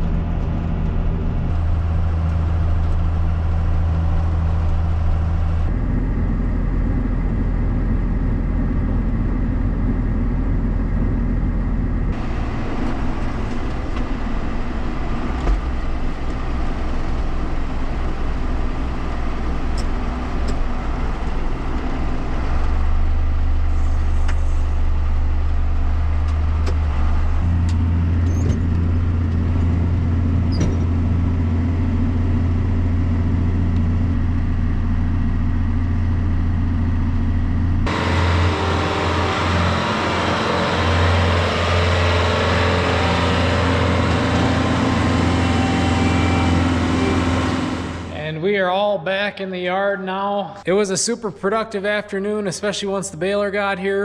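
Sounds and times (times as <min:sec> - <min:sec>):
farm machinery engines running: 0:00.0 - 0:48.4.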